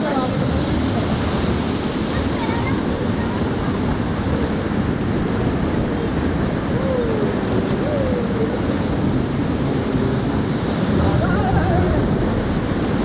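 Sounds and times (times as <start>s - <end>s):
rushing river water: 0.0s - 13.0s
wind buffeting microphone: 0.0s - 13.0s.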